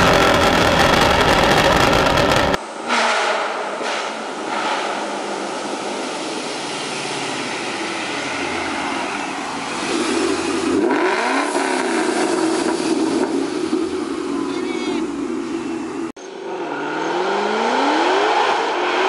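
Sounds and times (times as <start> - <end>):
car exhaust rumble: 0.0 - 16.1.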